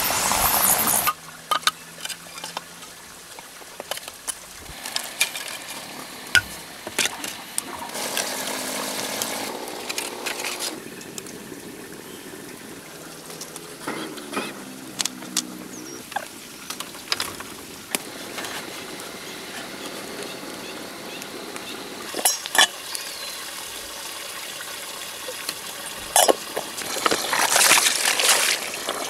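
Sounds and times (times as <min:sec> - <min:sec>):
water pouring and splashing: 0:00.0 - 0:29.0.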